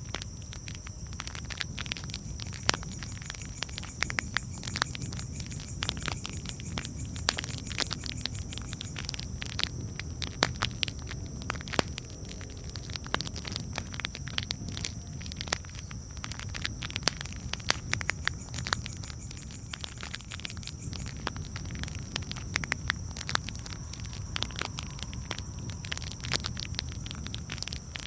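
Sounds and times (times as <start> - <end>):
low rumble of burning wood: 0.0 - 28.0
campfire crackling and popping: 0.2 - 28.0.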